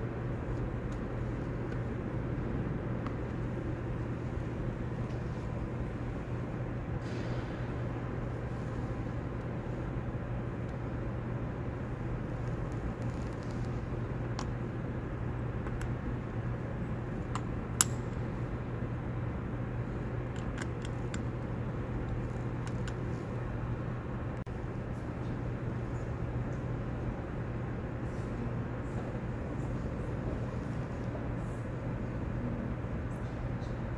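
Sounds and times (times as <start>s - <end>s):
low hum of large interior: 0.0s - 33.9s.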